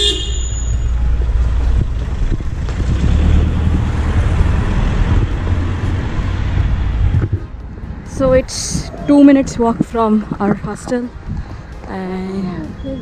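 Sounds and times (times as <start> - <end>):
car traffic passing: 0.0 - 13.0
wind rumble on microphone: 0.9 - 13.0.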